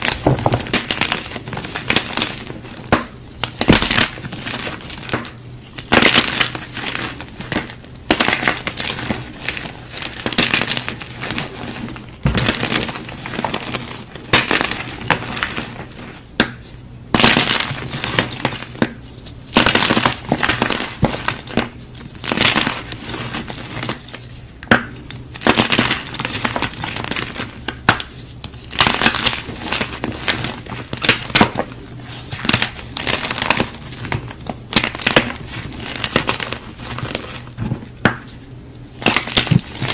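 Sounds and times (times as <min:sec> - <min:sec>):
chalk being crushed: 0:00.0 - 0:39.9.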